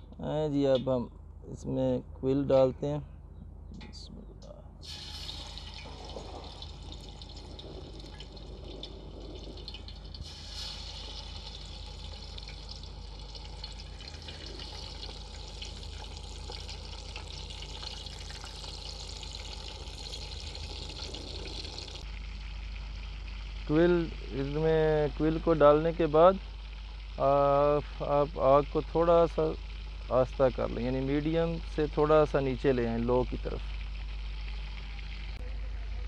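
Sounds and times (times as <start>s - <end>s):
deep-frying sizzling crackle: 4.8s - 35.9s.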